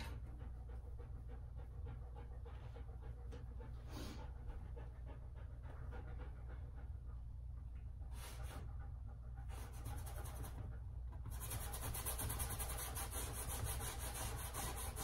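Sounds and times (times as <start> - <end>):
dog panting: 0.0 - 15.0
steady low hum: 0.0 - 15.0.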